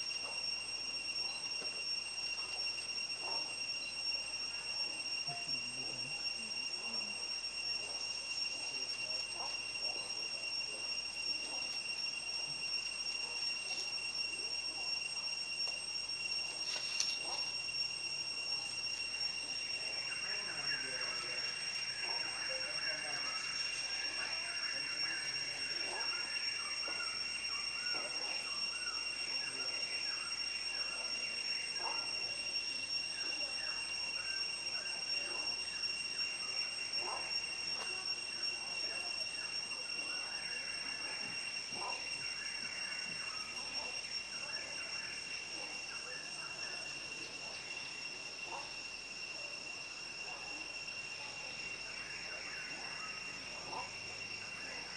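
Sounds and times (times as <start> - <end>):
high-pitched insect drone: 0.0 - 54.9.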